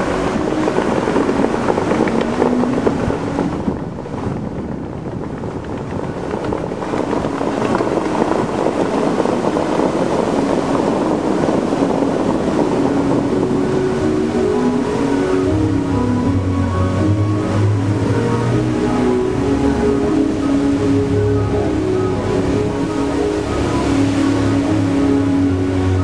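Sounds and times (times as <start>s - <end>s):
fountain water spraying and crashing: 0.0s - 26.0s.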